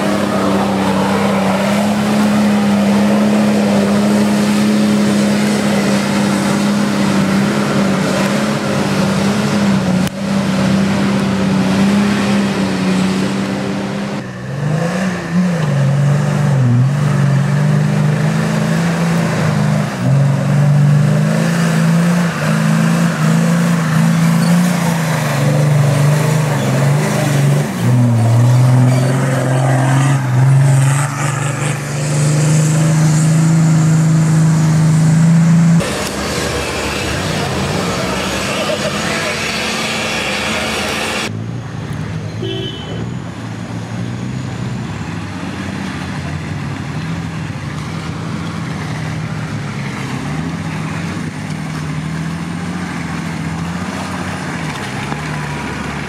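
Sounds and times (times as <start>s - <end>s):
off-road engine revving: 0.0s - 42.2s, 43.8s - 56.0s.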